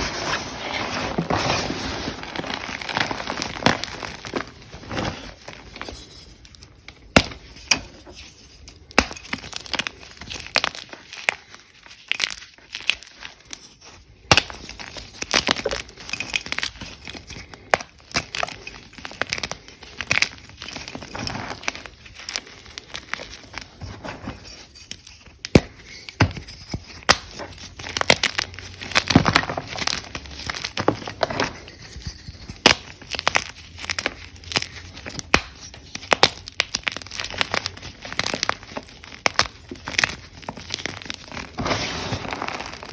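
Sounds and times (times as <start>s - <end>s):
chalk crunching and crumbling: 0.0s - 42.9s.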